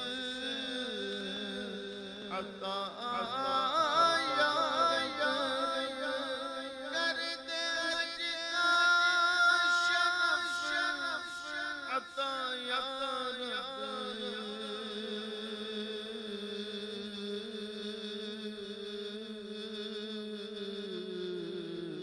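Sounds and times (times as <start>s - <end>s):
man singing into microphone: 0.0s - 22.0s.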